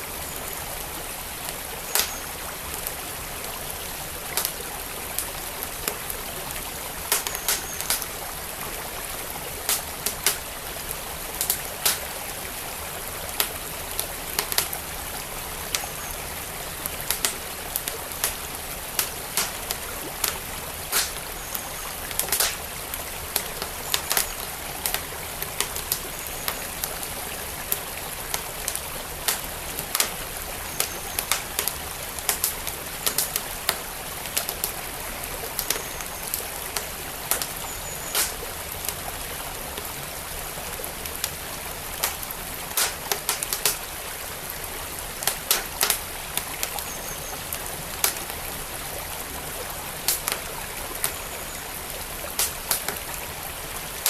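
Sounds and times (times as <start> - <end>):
flowing stream: 0.0 - 54.0
wood fire crackling and popping: 1.5 - 3.0, 4.2 - 46.8, 47.4 - 48.6, 50.0 - 54.0.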